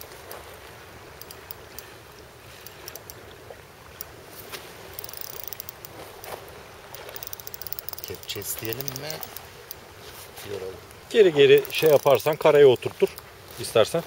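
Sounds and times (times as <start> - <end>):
sea water washing at shore: 0.0 - 14.0
faint clicks: 1.1 - 9.8, 10.8 - 13.7.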